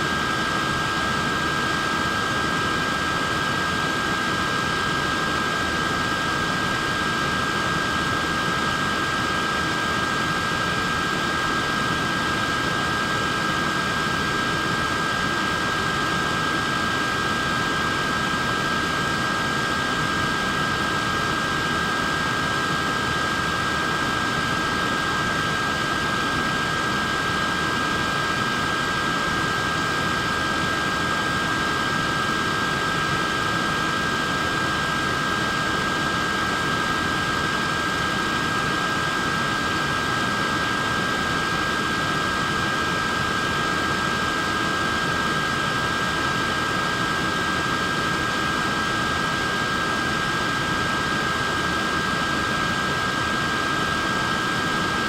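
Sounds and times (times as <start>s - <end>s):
high-pitched motor whine: 0.0s - 55.0s.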